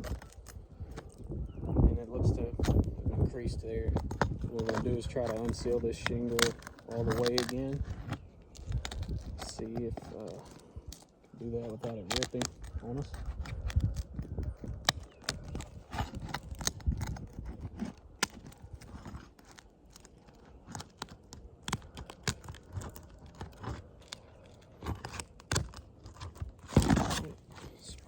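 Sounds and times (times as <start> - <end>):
shingle scraping and crackling: 0.0 - 28.0.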